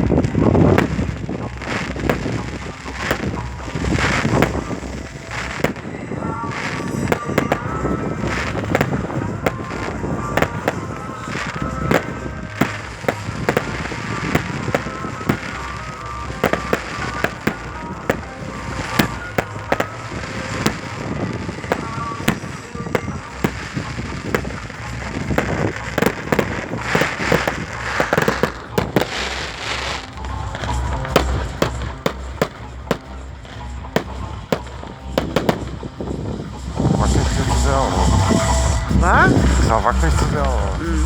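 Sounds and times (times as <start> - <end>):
fireworks bangs and cracks: 0.0 - 41.0
music: 0.0 - 41.0.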